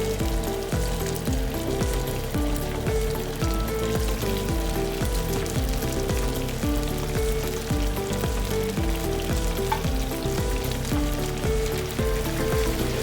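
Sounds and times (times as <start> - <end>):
background music with beat: 0.0 - 13.0
food frying in oil: 0.0 - 13.0.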